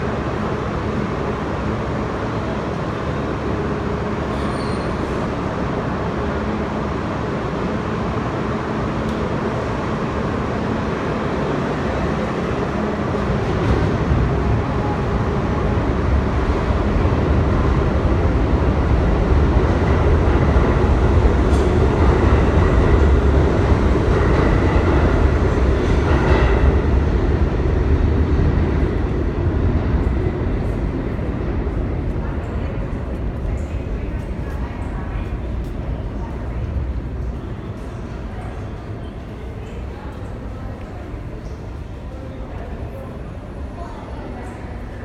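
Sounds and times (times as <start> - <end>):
subway train rumble: 0.0 - 45.0.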